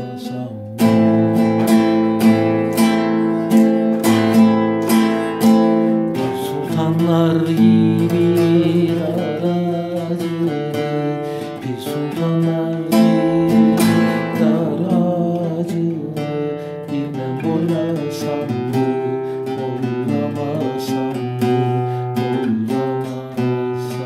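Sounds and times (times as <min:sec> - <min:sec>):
classical guitar strumming chords: 0:00.0 - 0:24.0.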